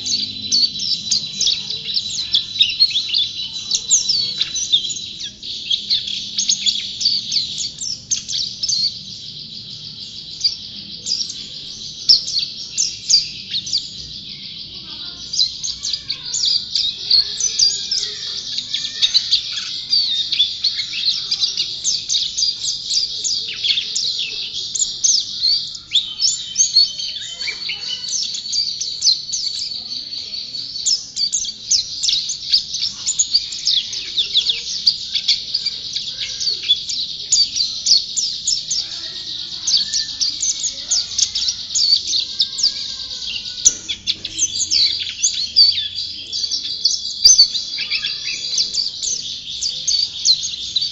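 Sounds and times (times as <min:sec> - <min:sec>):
bird chirping and trilling: 0:00.0 - 0:50.9.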